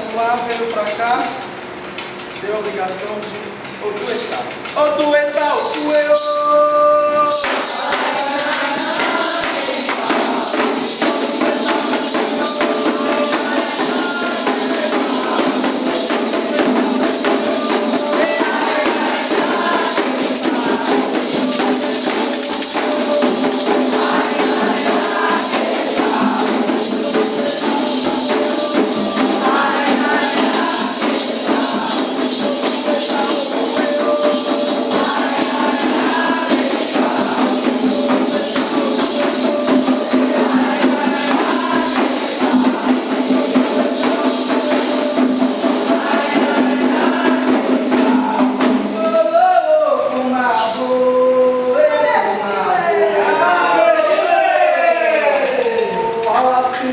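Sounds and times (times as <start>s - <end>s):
jingling and rattling percussion: 0.0s - 50.4s
voices chanting: 5.5s - 56.6s.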